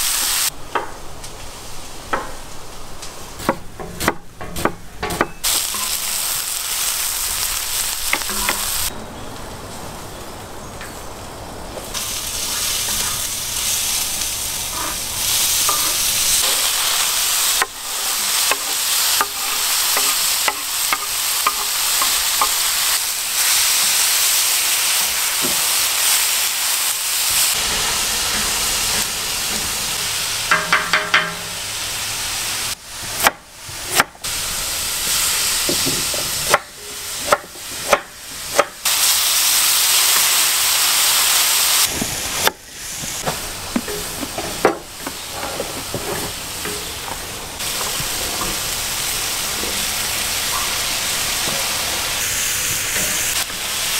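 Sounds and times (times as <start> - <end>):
vegetables sizzling in a pan: 0.0 - 4.7, 5.4 - 8.9, 11.8 - 53.9.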